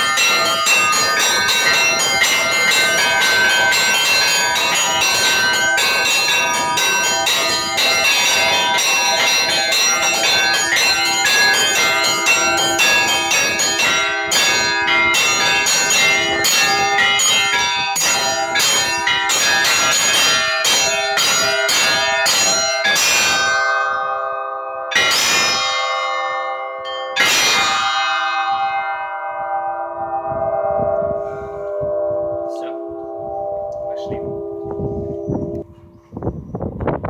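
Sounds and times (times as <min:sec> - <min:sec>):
church bells ringing: 0:00.0 - 0:37.0.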